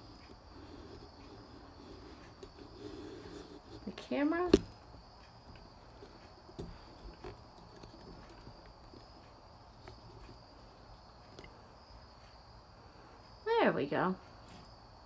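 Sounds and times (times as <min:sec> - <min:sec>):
crickets and cicadas chirring: 0:00.0 - 0:15.0.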